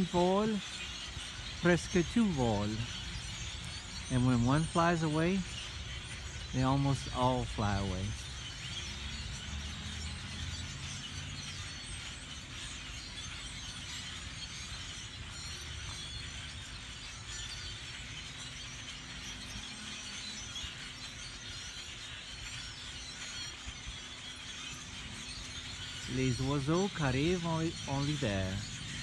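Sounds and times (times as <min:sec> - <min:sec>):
flock of birds chirping: 0:00.0 - 0:29.0.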